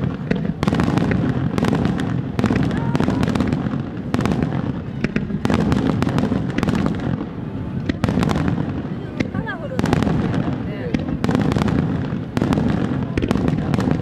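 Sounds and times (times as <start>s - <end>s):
fireworks bursting with sharp cracks: 0.0s - 14.0s.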